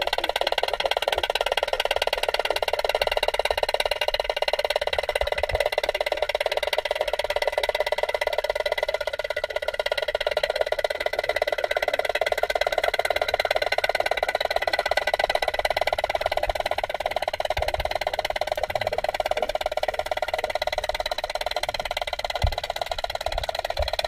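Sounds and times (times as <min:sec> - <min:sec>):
pool equipment buzzing underwater: 0:00.0 - 0:24.0.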